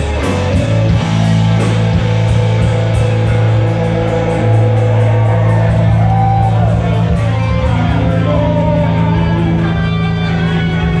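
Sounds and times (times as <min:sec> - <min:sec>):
electric guitar lead: 0:00.0 - 0:11.0
sustained bass notes: 0:00.0 - 0:11.0.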